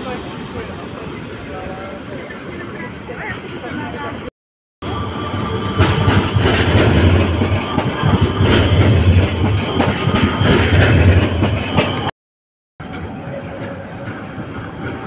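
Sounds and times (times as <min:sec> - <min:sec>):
tram wheels rumbling on rails: 0:00.0 - 0:12.1, 0:12.8 - 0:15.0.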